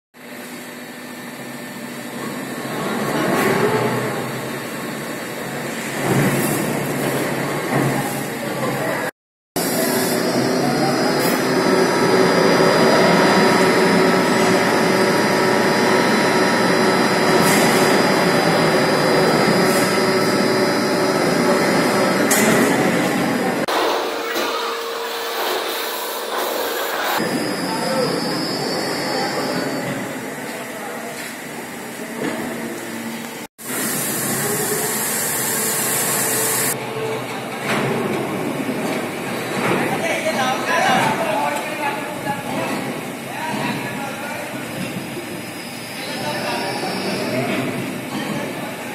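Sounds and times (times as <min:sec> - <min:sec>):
crane mechanical hum and whine: 0:00.2 - 0:41.2, 0:41.8 - 0:48.9.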